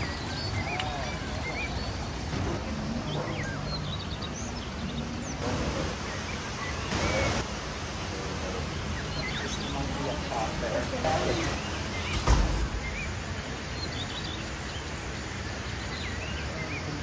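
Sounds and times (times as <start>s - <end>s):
bird chirps: 0.0s - 7.5s, 8.8s - 17.0s
steady background hiss: 0.0s - 17.0s.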